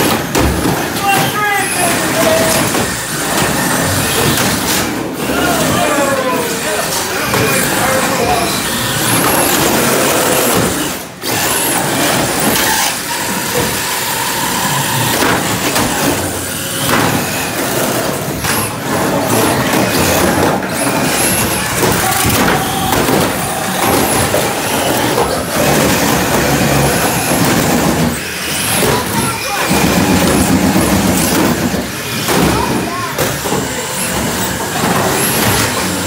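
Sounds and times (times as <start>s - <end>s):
plastic bodies knocking together: 0.0s - 5.8s, 6.4s - 36.0s
wheels scrabbling: 0.0s - 36.0s
small motors whining: 0.8s - 36.0s.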